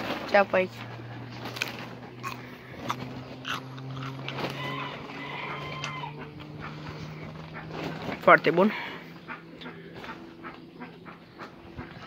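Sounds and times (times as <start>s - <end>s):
rustles: 0.0s - 10.7s
low engine hum: 0.0s - 12.0s.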